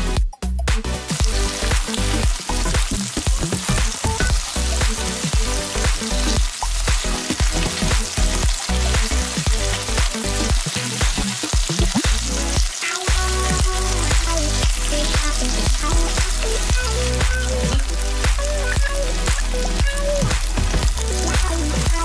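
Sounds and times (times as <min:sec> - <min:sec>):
background music with beat: 0:00.0 - 0:22.0
tofu sizzling in oil: 0:01.0 - 0:22.0.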